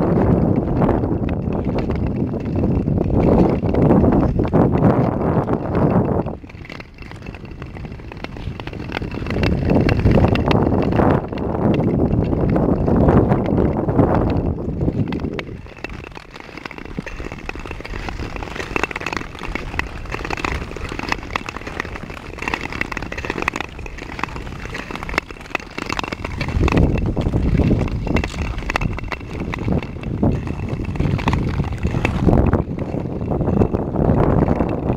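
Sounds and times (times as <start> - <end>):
ice skates scraping on ice: 0.0 - 34.9
wind buffeting microphone: 0.0 - 34.9.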